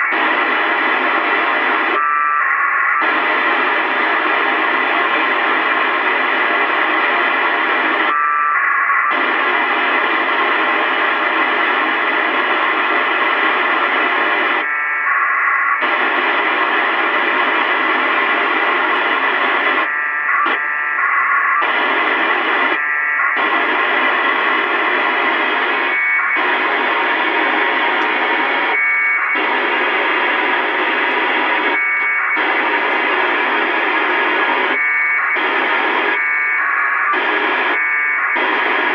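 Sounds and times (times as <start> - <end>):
packet radio data bursts: 0.0 - 38.9
radio static hiss: 0.0 - 38.9.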